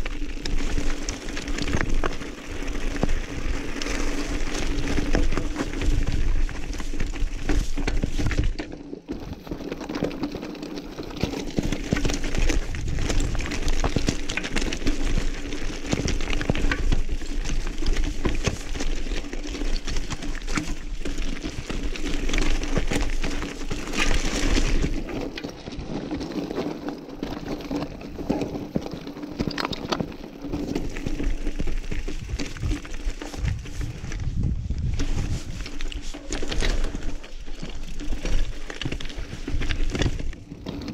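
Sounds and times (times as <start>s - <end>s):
bike rattling: 0.0s - 40.9s
bike tyres clattering on stones: 0.0s - 40.9s.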